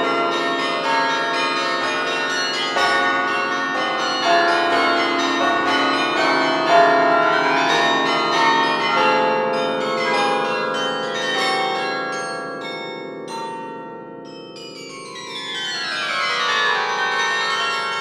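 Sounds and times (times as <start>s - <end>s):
carillon bells ringing: 0.0s - 18.0s.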